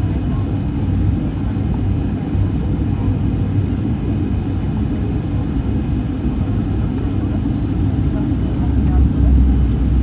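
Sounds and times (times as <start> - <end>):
airliner engines rumbling in cabin: 0.0 - 10.0.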